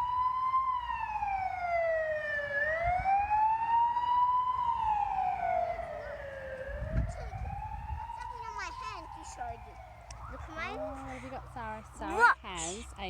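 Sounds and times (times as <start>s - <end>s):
ambulance siren wailing: 0.0s - 11.2s.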